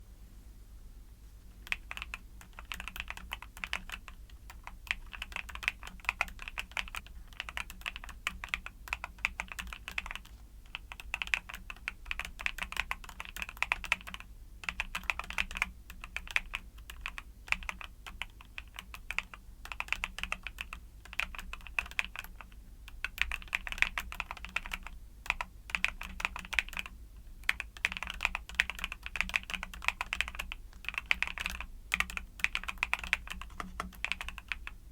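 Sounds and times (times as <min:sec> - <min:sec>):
mechanical keyboard typing: 0:01.6 - 0:34.8.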